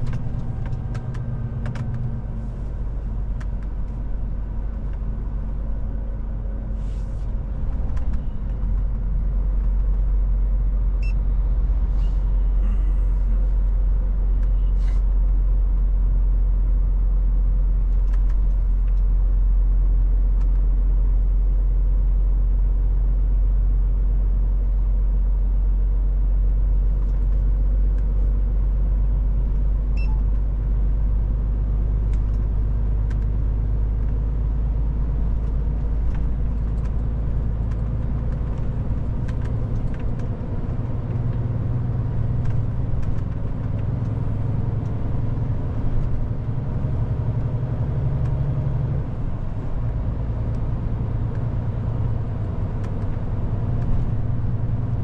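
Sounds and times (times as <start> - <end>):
road rumble: 0.0 - 55.0
truck engine drone: 0.0 - 55.0.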